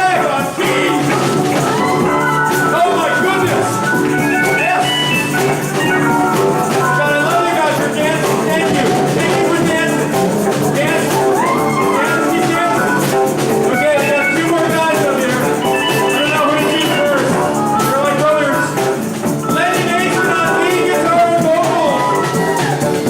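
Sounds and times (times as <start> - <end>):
upbeat dance band music: 0.0 - 23.0.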